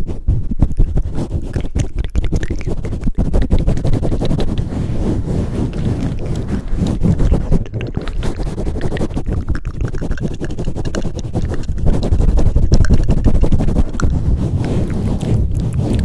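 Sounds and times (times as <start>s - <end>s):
hands rubbing over microphone: 0.0s - 16.0s.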